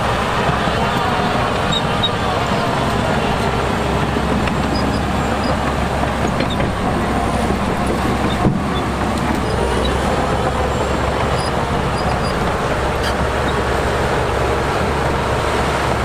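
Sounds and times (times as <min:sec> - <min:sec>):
heavy diesel machinery rumbling: 0:00.0 - 0:16.0.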